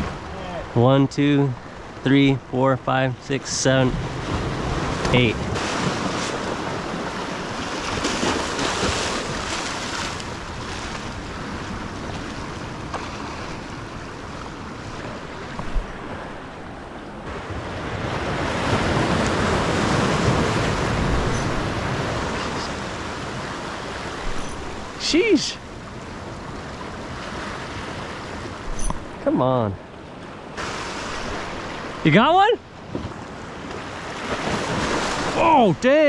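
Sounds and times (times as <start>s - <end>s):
surf breaking on beach: 3.7s - 16.5s, 17.2s - 28.7s, 30.5s - 36.0s.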